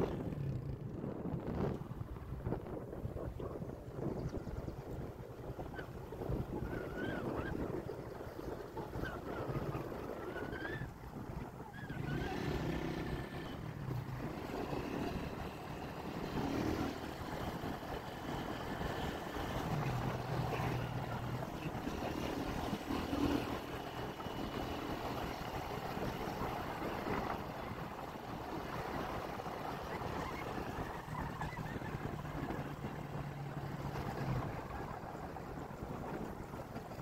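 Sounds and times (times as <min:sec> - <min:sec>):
road noise: 0:00.0 - 0:37.0
vehicle engine hum: 0:00.0 - 0:37.0.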